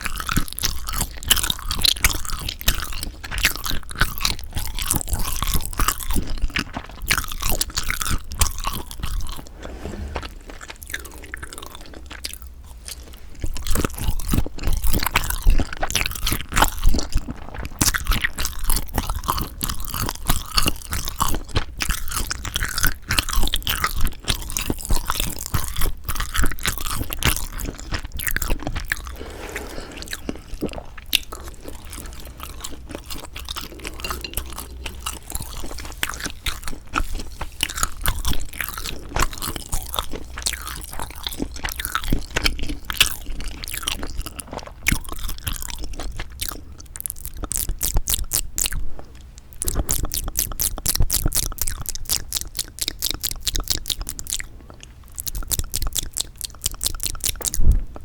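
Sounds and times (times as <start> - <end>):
close chewing and biting: 0.0 - 58.0.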